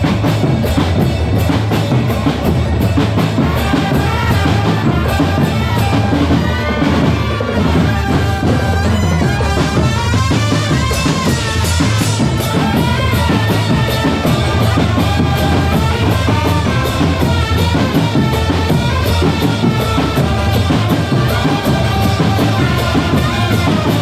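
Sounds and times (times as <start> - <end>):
bass and snare drums beat: 0.0 - 24.0.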